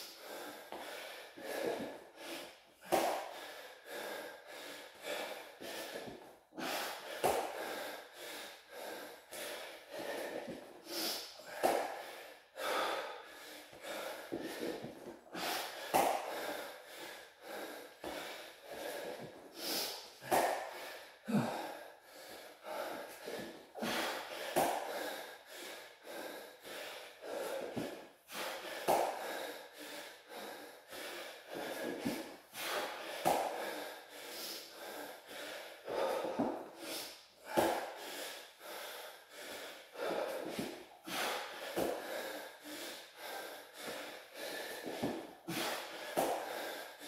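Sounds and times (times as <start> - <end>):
man breathing hard: 0.0 - 47.0.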